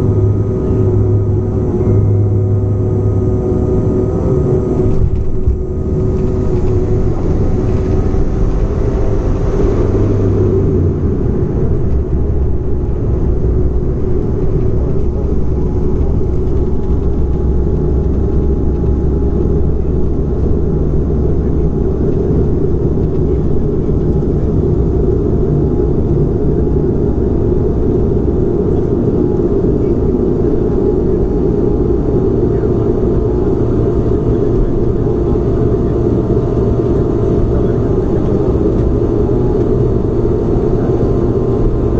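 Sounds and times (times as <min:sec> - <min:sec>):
airliner engines rumbling: 0:00.0 - 0:41.9.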